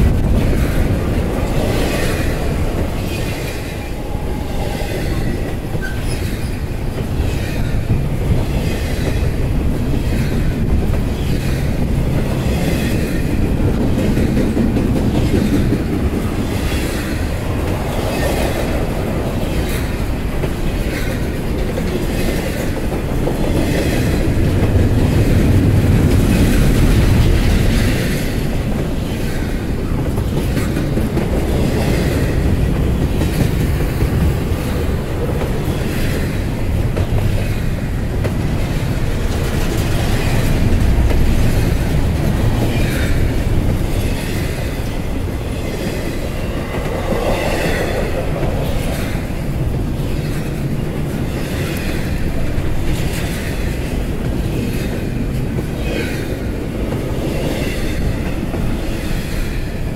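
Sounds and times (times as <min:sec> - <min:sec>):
train low rumble: 0:00.0 - 0:59.9
train wheels clicking over rail joints: 0:00.0 - 0:59.9.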